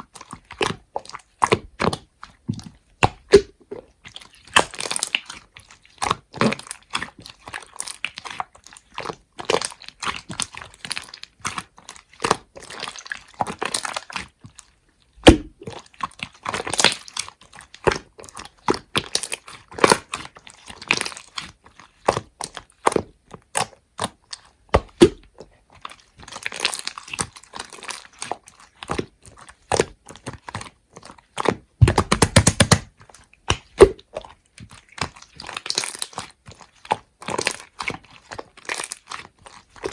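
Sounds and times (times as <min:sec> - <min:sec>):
slime crackling and popping: 0:00.3 - 0:14.3, 0:15.2 - 0:39.9.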